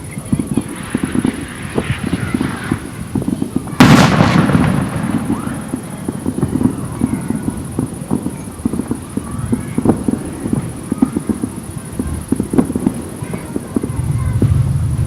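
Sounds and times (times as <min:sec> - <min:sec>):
firecracker pops and crackles: 0:00.0 - 0:15.0
loud firework bang: 0:00.1 - 0:15.0.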